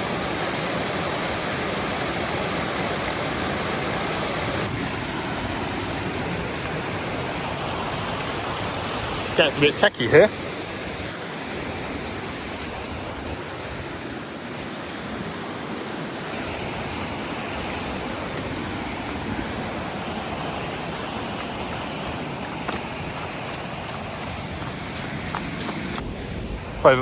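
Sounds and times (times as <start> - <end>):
river rushing over waterfalls: 0.0 - 26.0.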